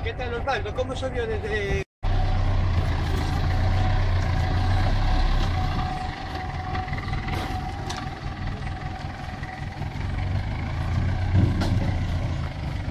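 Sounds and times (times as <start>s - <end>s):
engine running at low revs: 2.0s - 12.9s.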